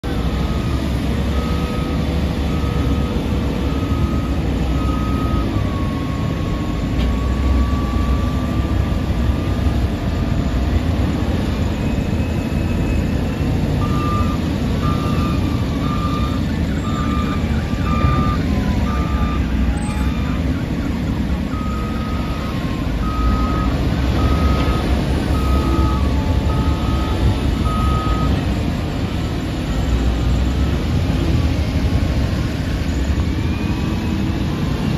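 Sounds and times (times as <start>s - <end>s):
diesel machines rumbling: 0.0s - 34.9s
reversing alarm beeping: 0.1s - 34.9s.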